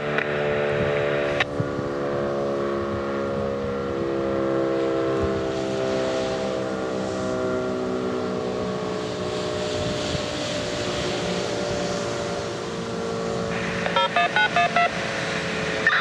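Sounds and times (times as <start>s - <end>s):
dual-tone warning siren wailing: 0.0s - 16.0s.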